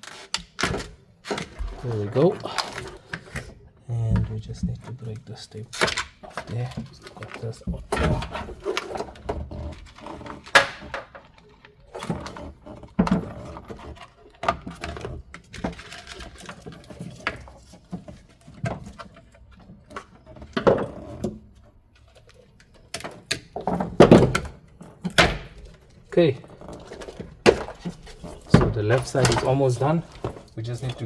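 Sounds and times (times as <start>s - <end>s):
plastic trim and wiring handled: 0.0s - 31.0s.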